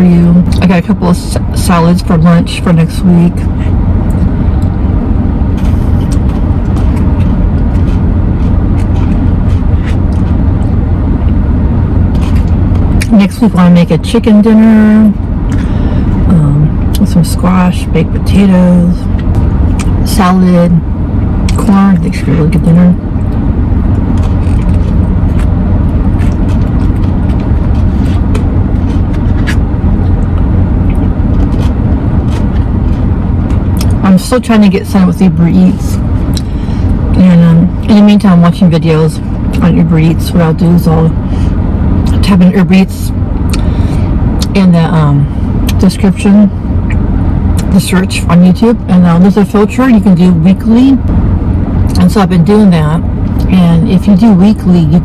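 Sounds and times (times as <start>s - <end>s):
vehicle engine rumble: 0.0s - 55.0s.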